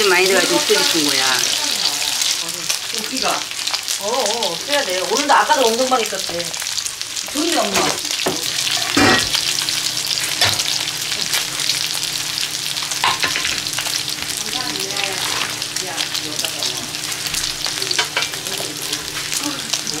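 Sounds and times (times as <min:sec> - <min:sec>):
pork fat sizzling and crackling: 0:00.0 - 0:20.0.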